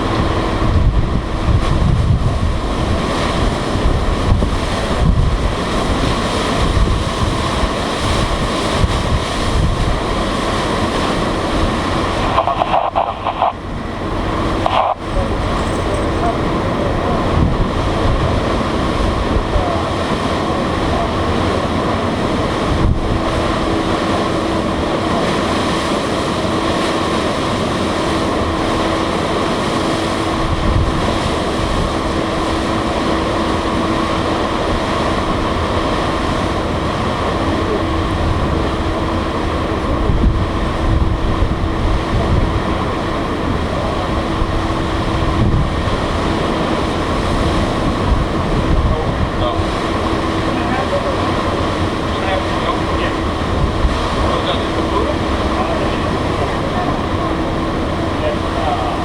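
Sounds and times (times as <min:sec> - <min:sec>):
ship machinery drone: 0:00.0 - 0:59.0
wind buffeting microphone: 0:00.0 - 0:59.0.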